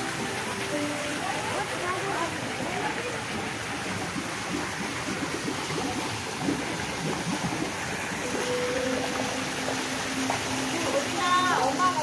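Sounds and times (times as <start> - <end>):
water rushing and bubbling: 0.0 - 12.0.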